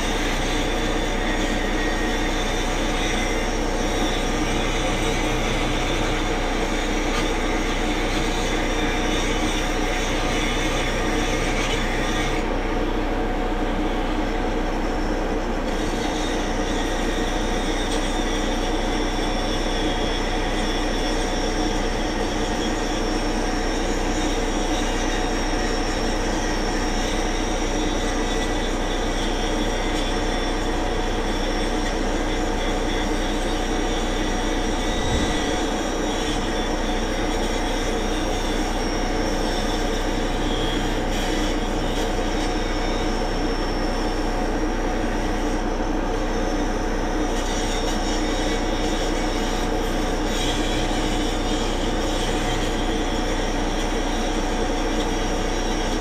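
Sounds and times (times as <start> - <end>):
machine drone with high whine: 0.0 - 56.0.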